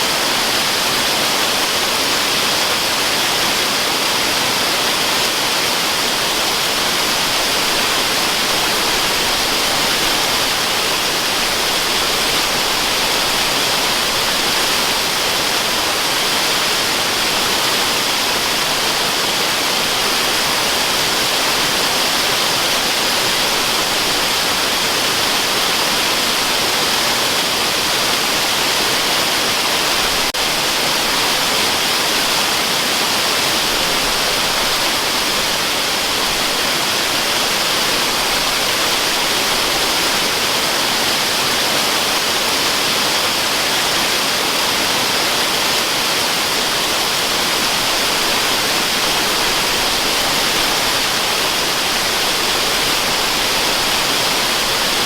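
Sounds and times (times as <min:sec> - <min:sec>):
waterfall rushing hiss: 0:00.0 - 0:55.0.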